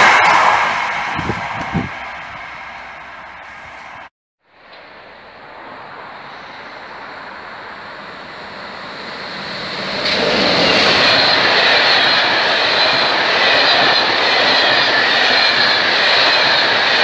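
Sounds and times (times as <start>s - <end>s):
approaching train rushing: 0.0s - 17.0s.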